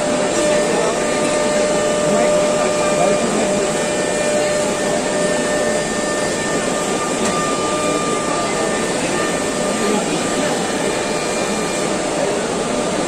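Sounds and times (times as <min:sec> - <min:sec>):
busy exhibition hall din: 0:00.0 - 0:13.0
faint steady printer whine: 0:00.0 - 0:13.0.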